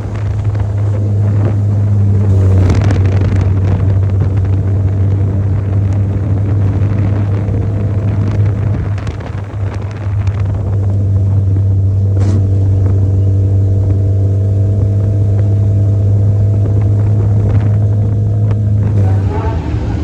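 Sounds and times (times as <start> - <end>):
engine droning steadily: 0.0 - 20.0.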